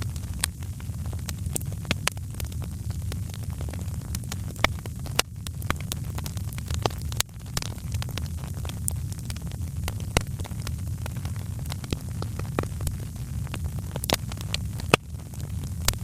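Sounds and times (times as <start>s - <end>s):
low rumble of flames: 0.0s - 16.0s
wood fire popping and snapping: 0.0s - 16.0s.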